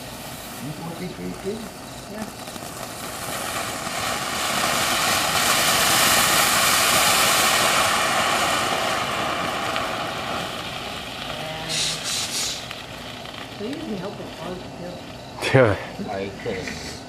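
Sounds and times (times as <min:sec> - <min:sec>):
firework spraying sparks with hiss: 0:00.0 - 0:17.0.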